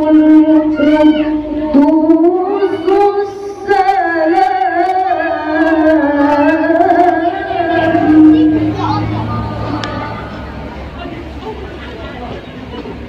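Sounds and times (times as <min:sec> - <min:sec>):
woman reciting melodically: 0:00.0 - 0:10.6.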